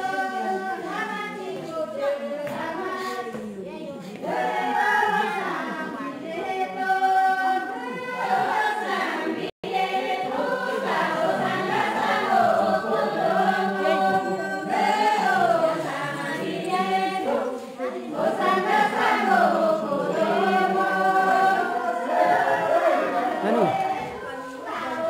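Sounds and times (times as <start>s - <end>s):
group singing unaccompanied: 0.0s - 25.0s.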